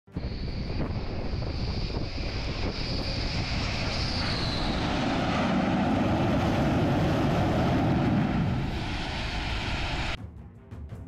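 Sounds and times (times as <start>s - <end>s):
jet engines roaring: 0.1s - 10.2s.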